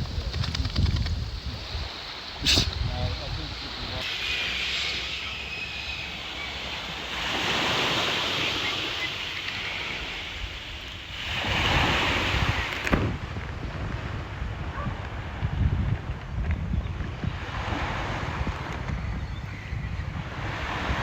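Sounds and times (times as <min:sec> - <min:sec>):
wind rumbling on microphone: 0:00.0 - 0:04.6, 0:05.3 - 0:21.0
surf washing on a beach: 0:00.0 - 0:19.1, 0:19.9 - 0:21.0.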